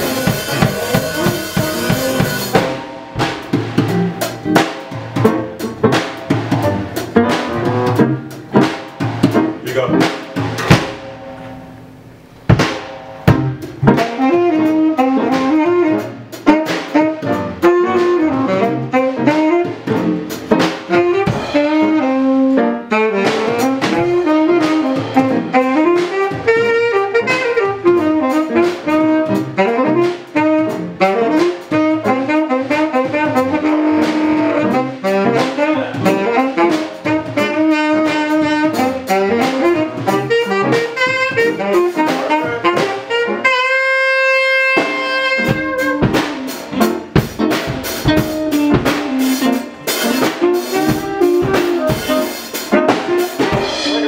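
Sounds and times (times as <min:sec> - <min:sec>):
drum kit: 0:00.0 - 0:54.0
piano: 0:00.0 - 0:54.0
saxophone melody: 0:00.0 - 0:54.0.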